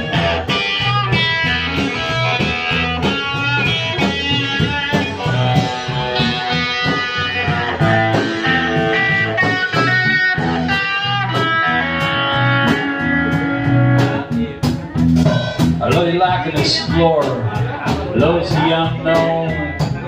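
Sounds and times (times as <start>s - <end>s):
bass guitar: 0.0s - 20.0s
electric guitar: 0.0s - 20.0s
steady drum beat: 0.0s - 20.0s.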